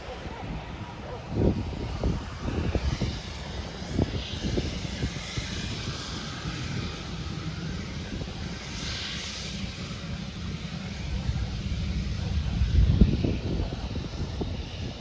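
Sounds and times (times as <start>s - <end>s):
airplane engine running: 0.0s - 15.0s
wind rumble on microphone: 0.0s - 15.0s.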